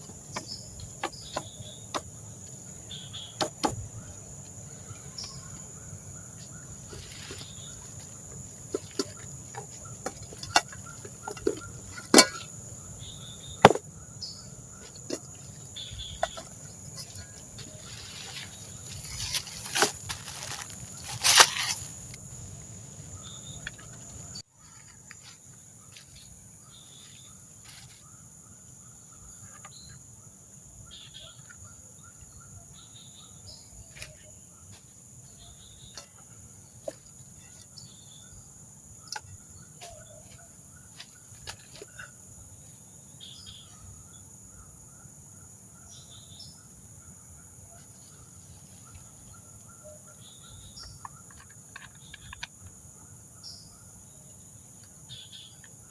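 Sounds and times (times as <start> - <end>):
crickets buzzing: 0.0 - 55.9.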